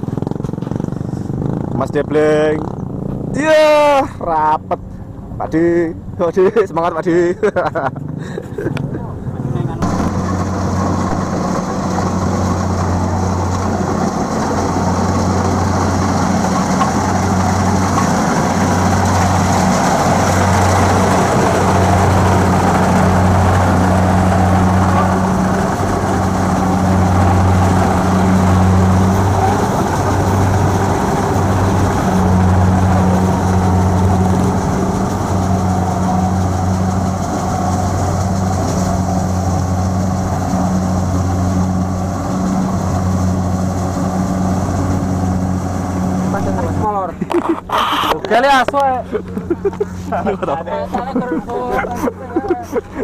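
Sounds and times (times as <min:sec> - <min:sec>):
combine harvester running: 0:00.0 - 0:53.0.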